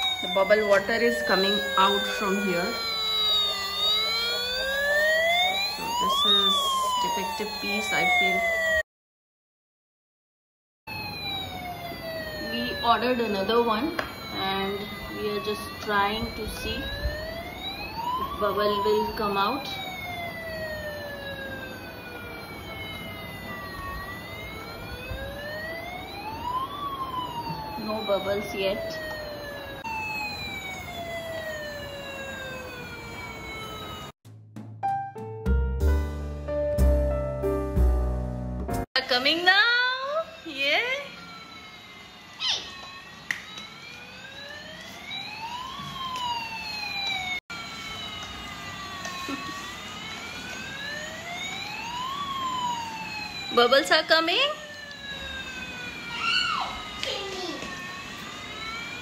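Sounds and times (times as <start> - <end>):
toy electronic siren wailing: 0.0 - 8.8, 10.9 - 34.2, 39.0 - 59.0.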